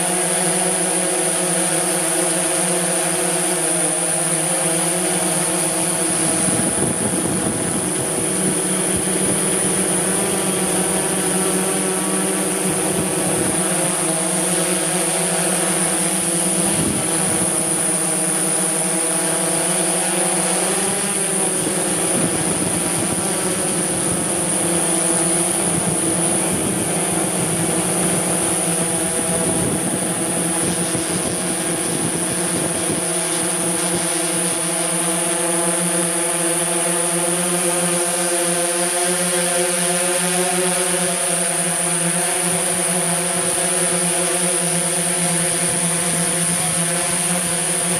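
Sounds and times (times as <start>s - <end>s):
drone motors buzzing: 0.0s - 47.9s.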